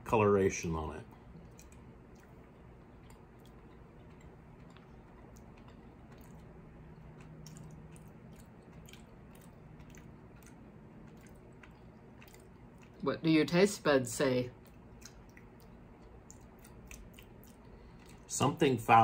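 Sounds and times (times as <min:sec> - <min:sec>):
low room hum: 0:00.0 - 0:19.0
soft chewing mouth clicks: 0:01.1 - 0:13.0, 0:14.6 - 0:18.3.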